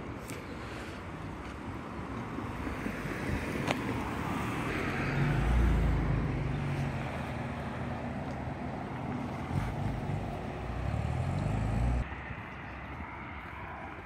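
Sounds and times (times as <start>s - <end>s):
outdoor traffic noise: 0.0s - 14.0s
car passing: 2.5s - 14.0s.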